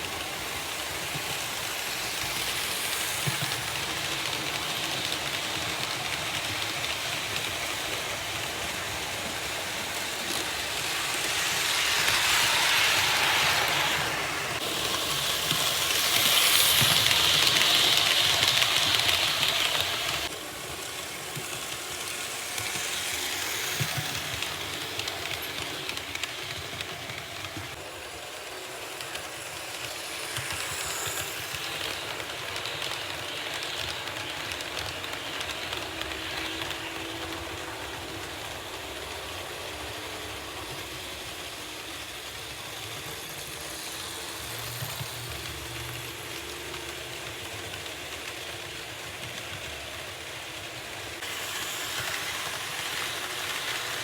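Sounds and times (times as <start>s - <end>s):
model train wheels clattering on rails: 0.0s - 54.0s.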